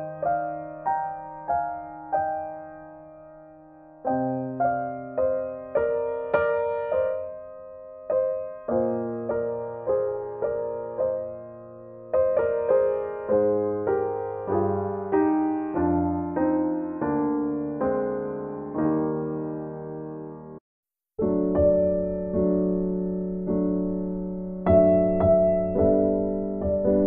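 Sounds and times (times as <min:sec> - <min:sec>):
gentle piano music: 0:00.0 - 0:20.6, 0:21.2 - 0:27.0.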